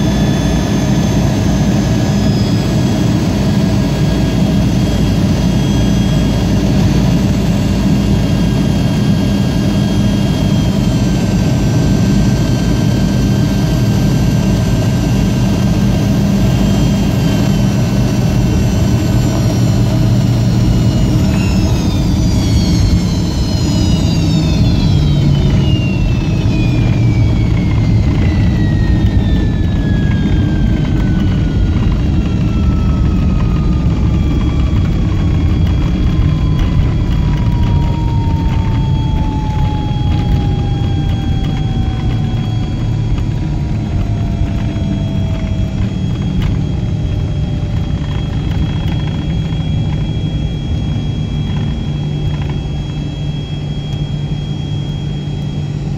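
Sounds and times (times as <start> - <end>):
jet engine roar with whine: 0.0 - 55.9.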